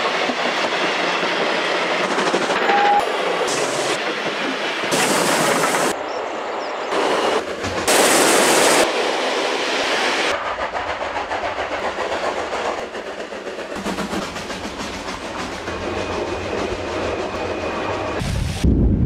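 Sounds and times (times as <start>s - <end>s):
steam locomotive rush of steam: 0.0s - 19.0s
steam train clatter and rumble: 0.0s - 19.0s.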